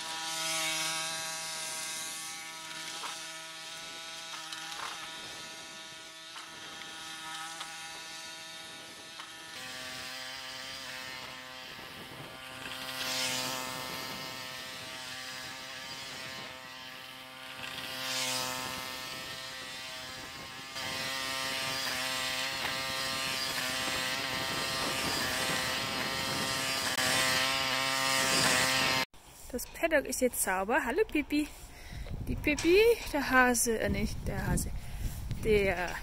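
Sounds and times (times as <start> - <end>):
small tractor engine running: 0.0 - 29.1.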